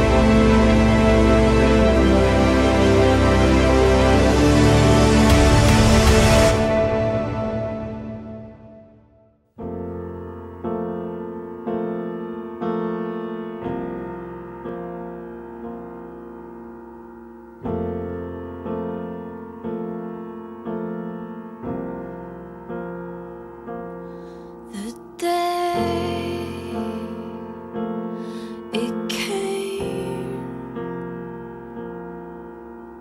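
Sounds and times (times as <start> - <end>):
soft piano music: 0.0 - 33.0.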